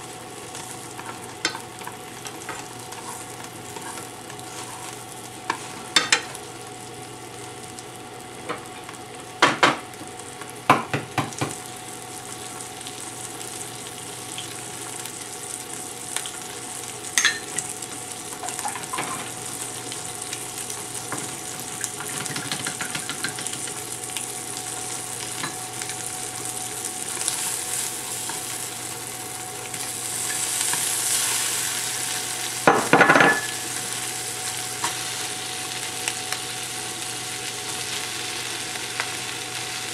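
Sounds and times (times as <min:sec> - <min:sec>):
bacon sizzling in a frying pan: 0:00.0 - 0:39.9.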